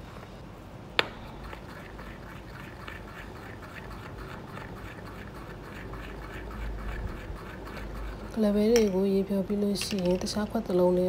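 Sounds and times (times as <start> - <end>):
spoon stirring batter in glass bowl: 1.0 - 10.8.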